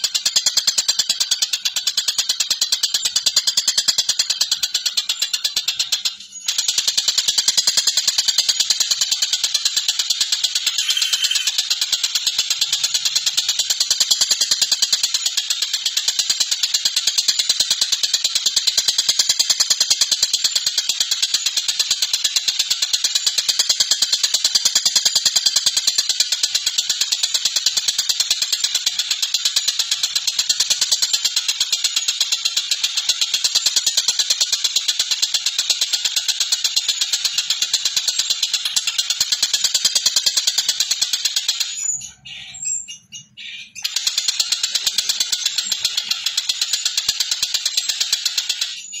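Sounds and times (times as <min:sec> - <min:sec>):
kingfisher rattling call: 0:00.1 - 0:42.6, 0:43.7 - 0:48.9.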